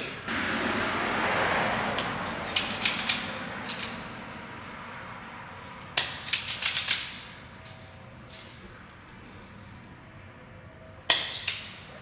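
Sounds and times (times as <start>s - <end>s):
rushing background noise: 0.2s - 12.0s.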